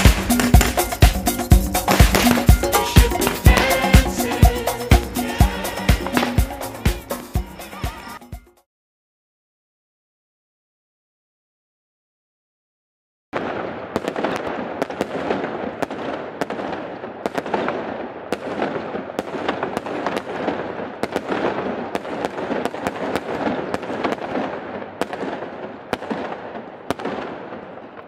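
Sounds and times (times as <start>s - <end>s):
fireworks crackling and popping: 0.0s - 7.9s, 13.4s - 28.0s.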